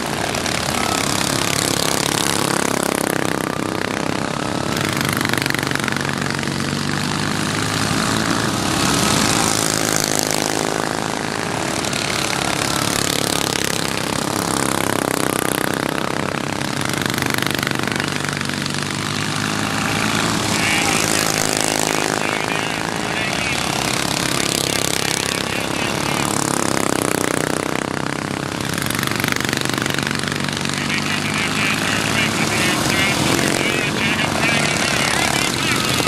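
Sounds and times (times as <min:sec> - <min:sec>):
racing lawn mower engines: 0:00.0 - 0:36.0.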